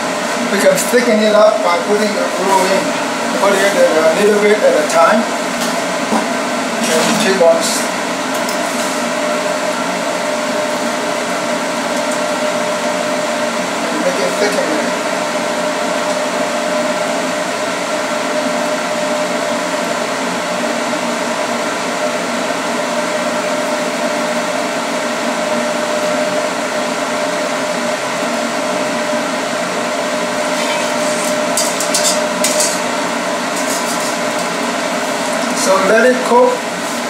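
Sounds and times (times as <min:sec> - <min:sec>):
fan whirring: 0:00.0 - 0:37.0.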